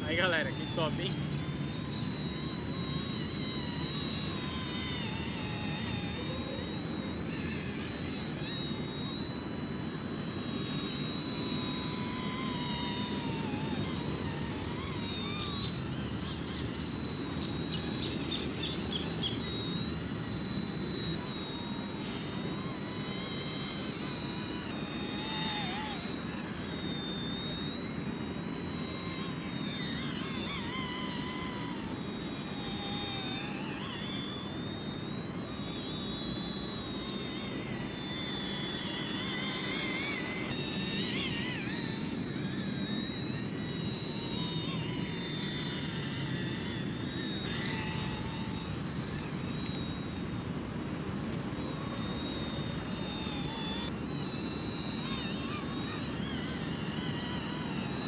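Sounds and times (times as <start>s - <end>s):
electric motor whine: 0.0s - 58.0s
rotor whir: 0.0s - 58.0s.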